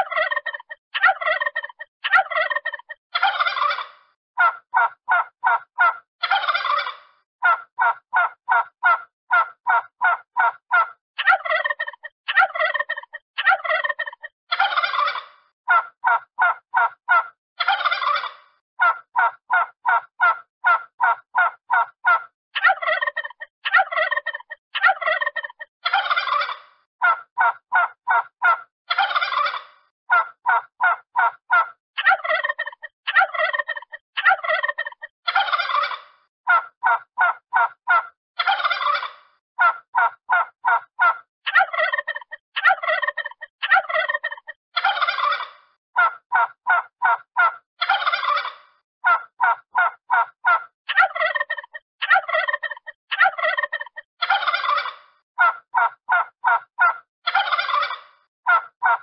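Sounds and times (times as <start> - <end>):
turkey gobbling: 0.0 - 59.0.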